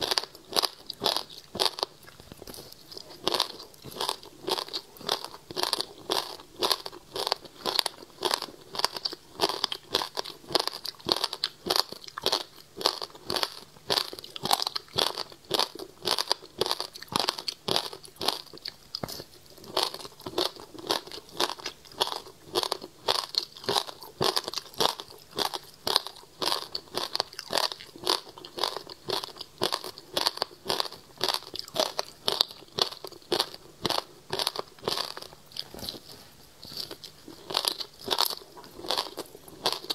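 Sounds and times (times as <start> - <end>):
crunching frozen fruit ice: 0.0 - 39.9.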